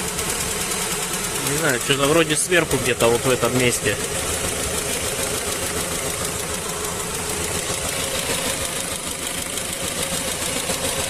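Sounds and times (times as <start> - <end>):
van engine idling with knock: 0.0 - 11.0.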